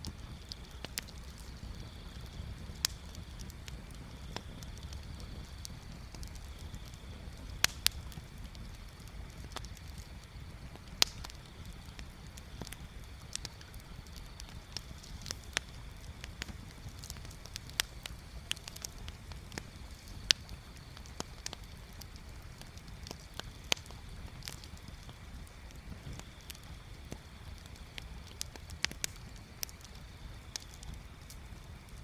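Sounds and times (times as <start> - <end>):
bonfire crackling: 0.0 - 32.0
low rumble of fire: 0.0 - 32.0.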